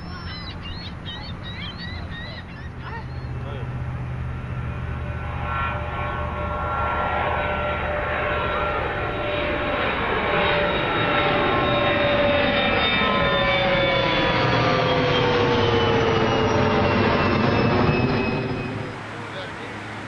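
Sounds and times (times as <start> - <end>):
whining tones falling in pitch: 0.0 - 19.2
jet airliner passing overhead: 0.0 - 20.0.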